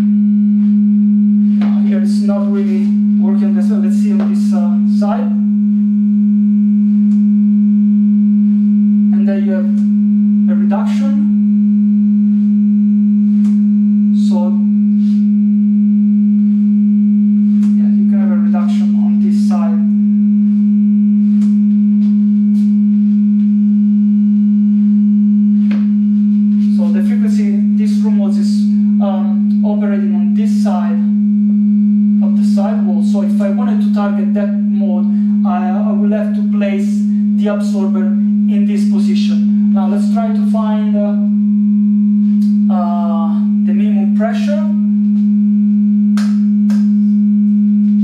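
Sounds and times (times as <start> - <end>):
steady sine test tone: 0.0 - 48.0.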